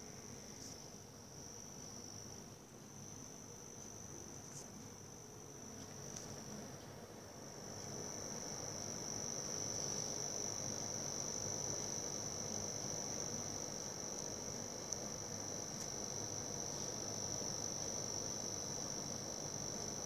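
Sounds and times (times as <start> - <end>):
faint hiss: 0.0 - 20.0.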